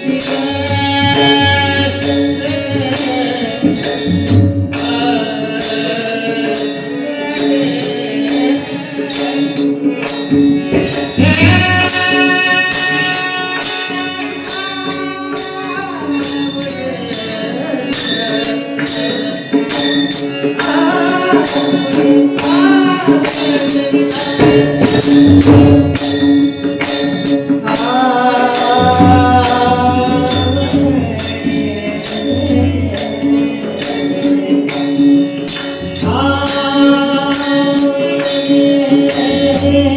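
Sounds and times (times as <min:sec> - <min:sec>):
man singing devotional song: 0:00.0 - 0:39.9
small cymbals: 0:00.0 - 0:39.9.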